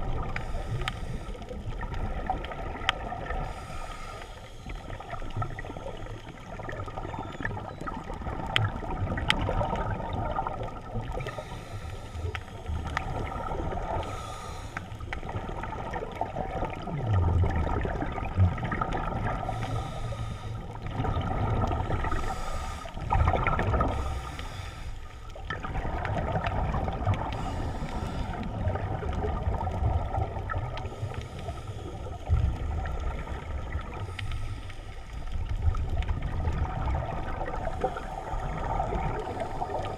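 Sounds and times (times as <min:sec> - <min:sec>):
muffled underwater rushing: 0:00.0 - 0:39.9
faint clicks: 0:00.1 - 0:16.8, 0:17.6 - 0:39.9.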